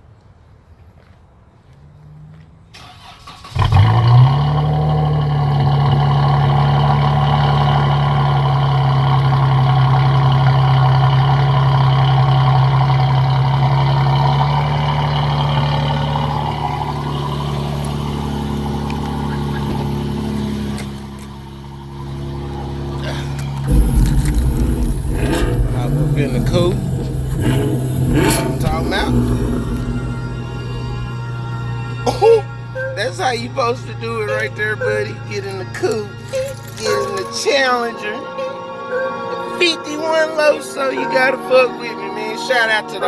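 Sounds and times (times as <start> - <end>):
car engine cold start and idle: 2.7 - 43.0.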